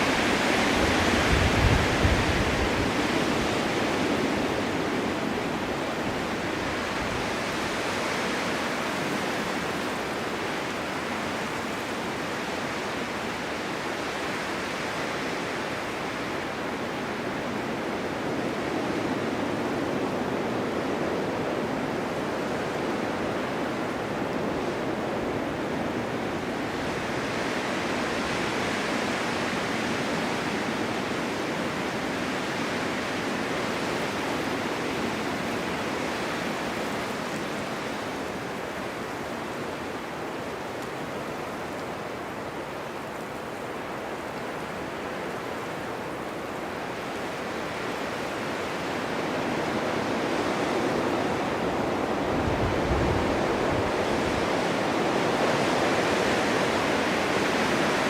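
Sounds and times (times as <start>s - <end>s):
blizzard wind rushing: 0.0s - 58.0s
low wind buffet: 0.0s - 58.0s.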